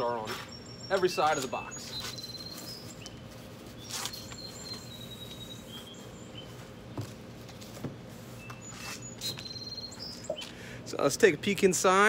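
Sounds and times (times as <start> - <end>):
birds chirping: 0.0 - 12.0
steady background hum: 0.0 - 12.0.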